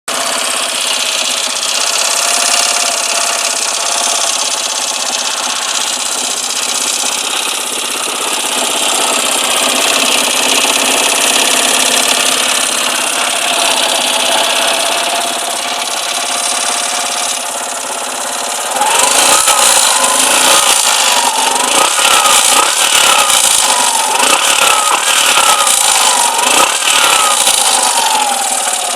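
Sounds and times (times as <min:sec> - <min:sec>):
scooter engine idling and revving: 0:00.0 - 0:28.9.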